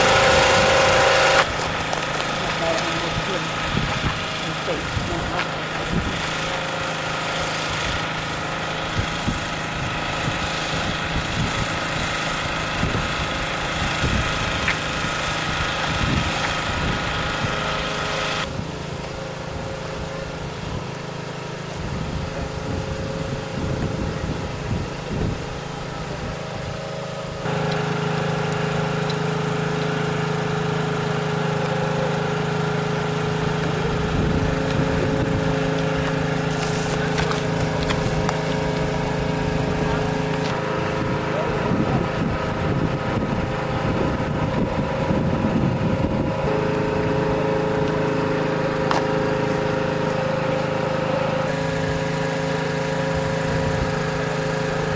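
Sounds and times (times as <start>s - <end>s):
small engine humming: 0.0s - 54.9s.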